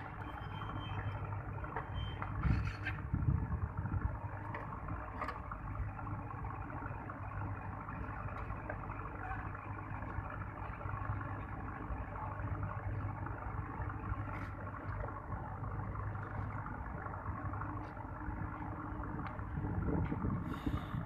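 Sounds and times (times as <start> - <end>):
machinery rumbling: 0.0 - 21.0.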